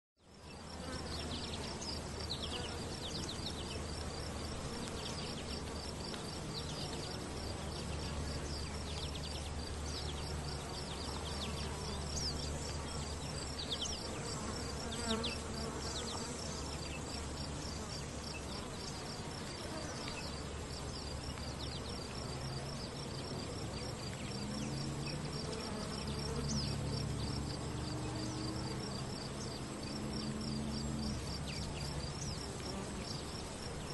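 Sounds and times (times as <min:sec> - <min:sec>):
insects buzzing: 0:00.2 - 0:33.9.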